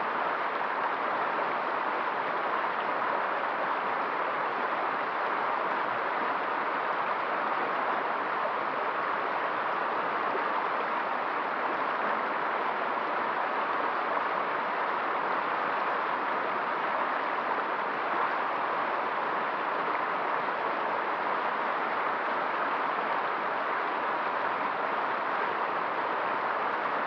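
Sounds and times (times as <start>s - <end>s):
river rushing over rapids: 0.0s - 27.0s.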